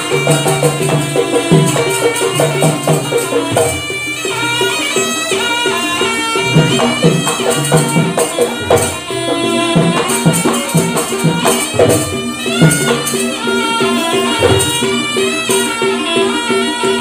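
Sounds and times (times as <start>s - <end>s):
traditional ensemble music: 0.0s - 17.0s.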